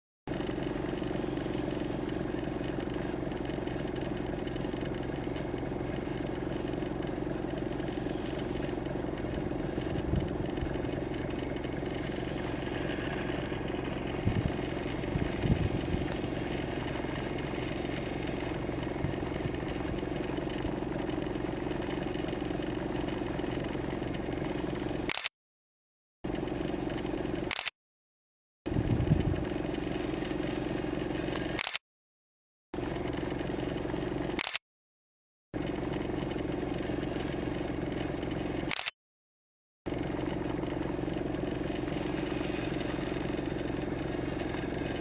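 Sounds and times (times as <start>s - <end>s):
low mechanical hum: 0.3s - 25.3s, 26.3s - 27.7s, 28.7s - 31.8s, 32.8s - 34.6s, 35.6s - 38.9s, 39.9s - 45.0s.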